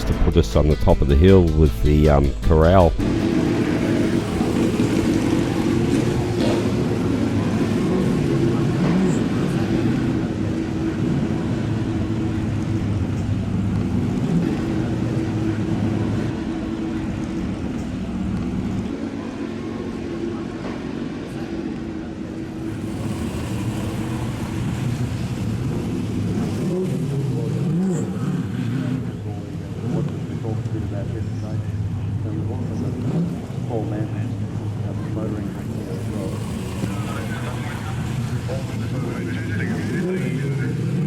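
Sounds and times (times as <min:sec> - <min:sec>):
car engines running: 0:00.0 - 0:41.0.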